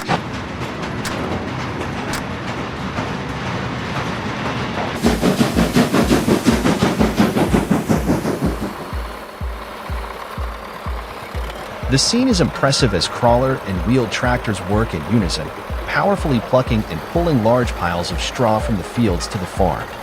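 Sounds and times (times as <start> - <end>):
rhythmic thumping: 0.0 - 3.1, 5.0 - 20.0
train rumbling on track: 0.0 - 20.0.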